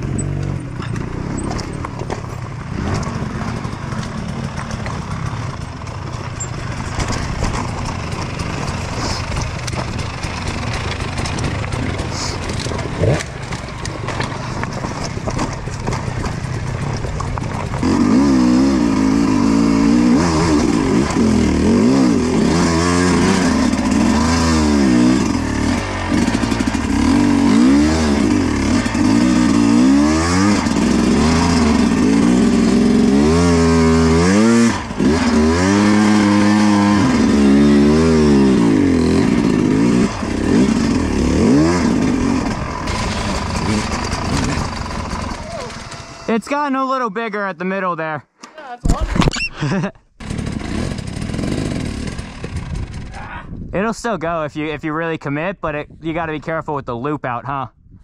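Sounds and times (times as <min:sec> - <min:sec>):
dirt bike engine revving: 0:02.6 - 0:46.8, 0:49.7 - 0:53.2.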